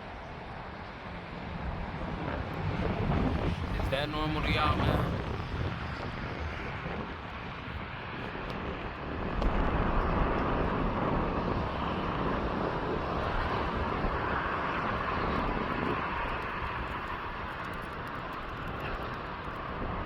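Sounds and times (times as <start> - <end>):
distant airplane rumbling: 0.1 - 19.7.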